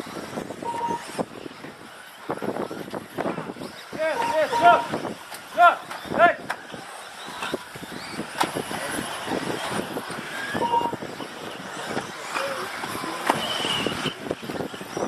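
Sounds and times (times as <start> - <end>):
small motors whining: 0.0 - 15.0.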